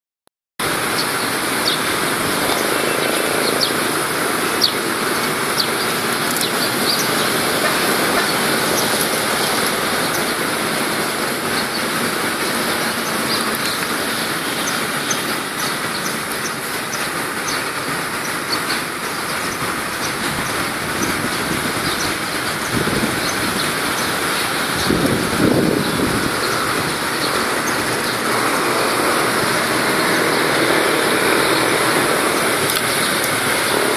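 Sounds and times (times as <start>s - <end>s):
street traffic noise: 0.6s - 33.9s.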